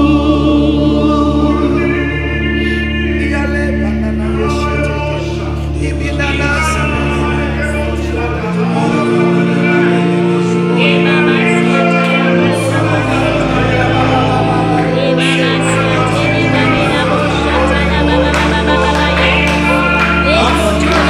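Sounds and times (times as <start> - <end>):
keyboard sustained chords: 0.0 - 21.0
singers singing: 0.0 - 21.0.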